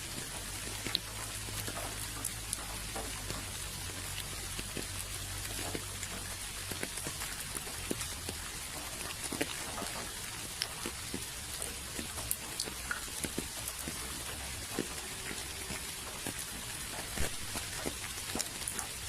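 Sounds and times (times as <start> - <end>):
raindrops ticking: 0.0 - 19.0
steady rain hiss: 0.0 - 19.0.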